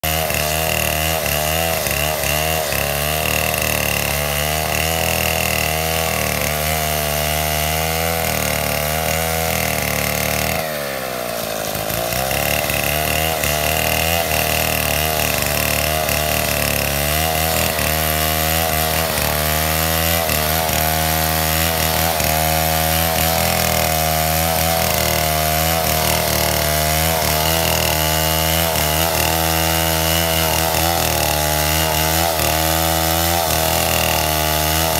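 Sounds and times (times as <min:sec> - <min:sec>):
chainsaw sawing wood: 0:00.0 - 0:34.9.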